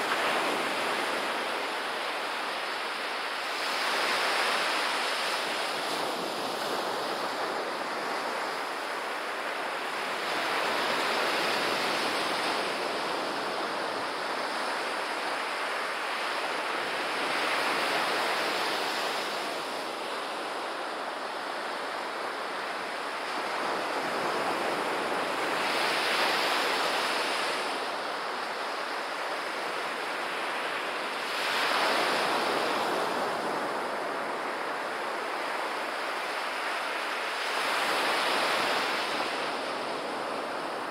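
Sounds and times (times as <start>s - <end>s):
small waves breaking on shore: 0.0s - 40.9s.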